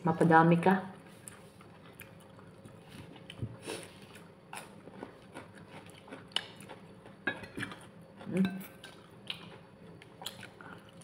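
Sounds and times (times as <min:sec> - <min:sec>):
person chewing food: 0:01.1 - 0:11.0.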